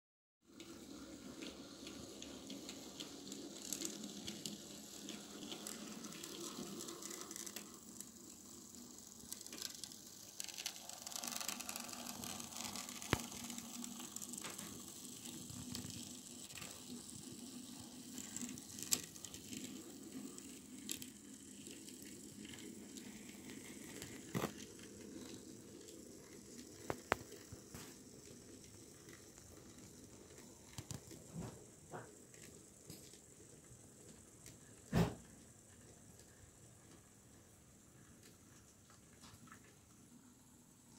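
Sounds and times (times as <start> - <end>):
model train motor rattling: 0.6 - 35.0.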